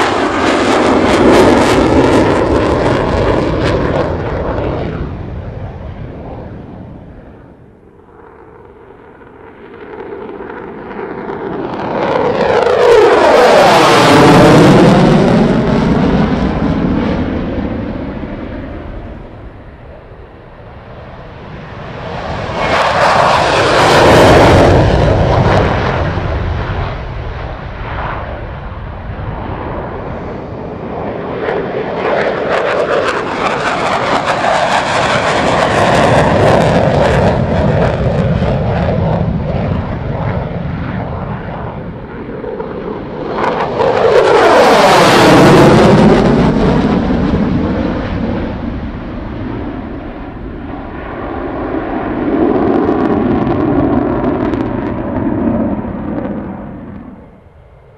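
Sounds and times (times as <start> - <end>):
fighter jet flyby: 0.0 - 57.9.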